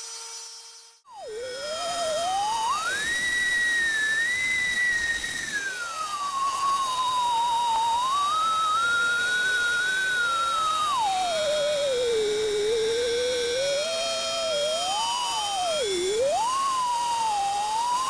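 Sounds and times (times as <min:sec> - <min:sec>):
faint steady high whine: 0:00.0 - 0:18.0
stepper motors whining: 0:00.0 - 0:18.0.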